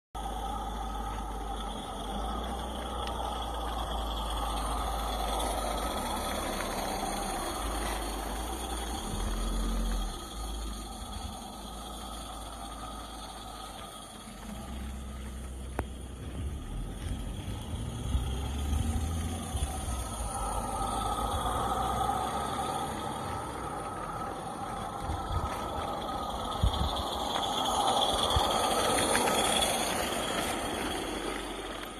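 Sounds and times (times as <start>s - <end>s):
low rumble: 0.2s - 31.9s
model steam locomotive hissing: 0.2s - 31.9s.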